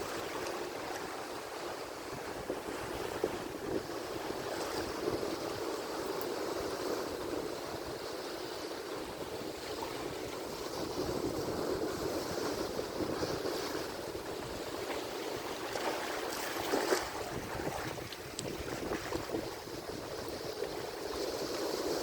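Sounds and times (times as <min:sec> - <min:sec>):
ocean waves on shore: 0:00.0 - 0:22.0.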